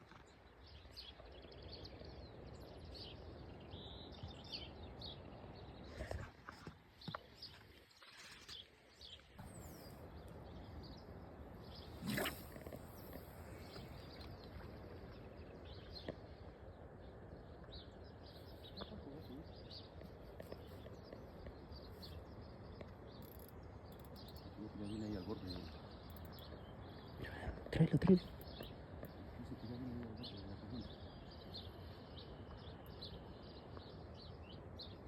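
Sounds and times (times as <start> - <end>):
outdoor background noise: 0.0 - 35.0
small birds chirping: 0.0 - 35.0.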